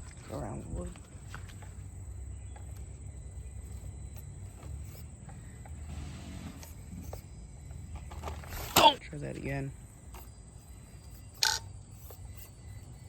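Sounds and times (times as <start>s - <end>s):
rc crawler clicks and knocks: 0.0s - 9.0s, 10.0s - 13.0s
crickets chirping: 0.0s - 13.0s.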